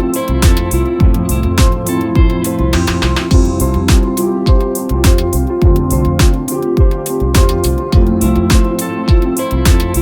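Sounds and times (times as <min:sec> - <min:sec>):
held pitched notes: 0:00.0 - 0:10.0.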